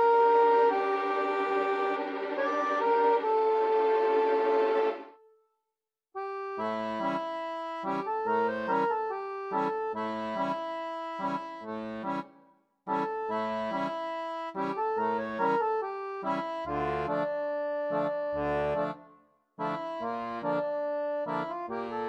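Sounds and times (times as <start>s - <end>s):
instrumental background music: 0.0s - 5.3s, 6.5s - 22.0s.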